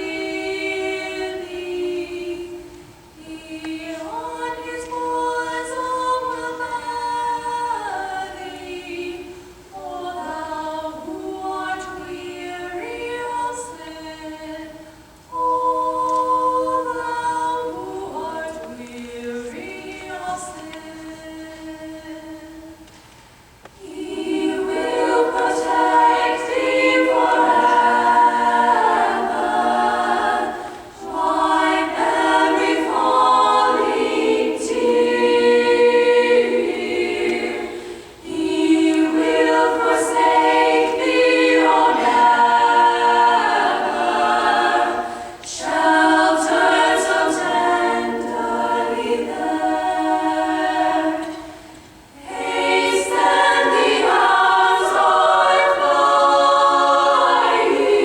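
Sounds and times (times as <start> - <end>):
treble choir singing: 0.0 - 58.0.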